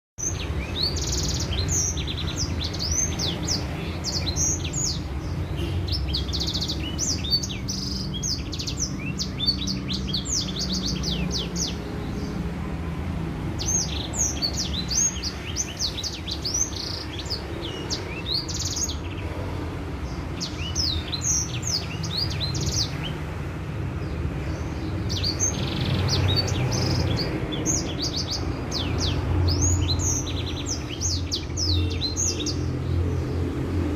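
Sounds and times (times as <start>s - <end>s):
songbird singing trills: 0.2s - 12.6s, 13.5s - 19.4s, 20.0s - 23.3s, 24.0s - 33.4s.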